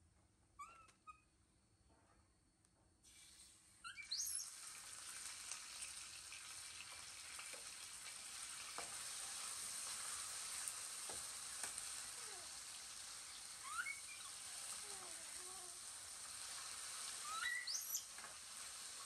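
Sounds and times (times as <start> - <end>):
food sizzling in hot oil: 3.0 - 19.0.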